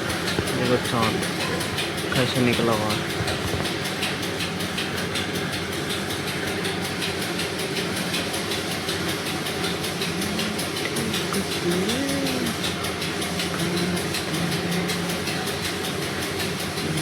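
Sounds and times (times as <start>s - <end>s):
fast high ticking: 0.0s - 17.0s
mechanical hum: 0.0s - 17.0s.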